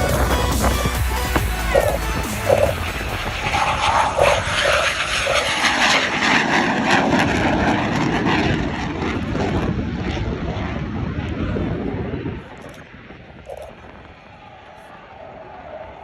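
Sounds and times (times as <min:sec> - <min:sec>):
airplane engine flying by: 0:00.0 - 0:16.0.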